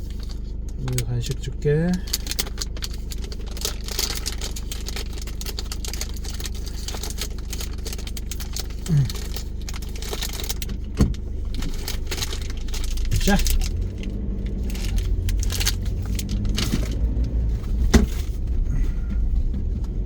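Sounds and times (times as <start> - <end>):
small rattling clicks: 0.0 - 18.6
car engine and road hum: 0.0 - 20.0.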